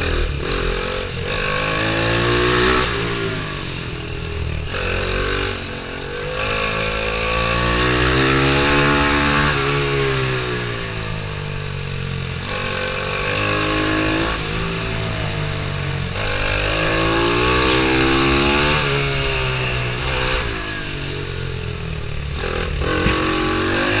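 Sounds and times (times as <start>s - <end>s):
pit bike engine revving: 0.0s - 24.0s.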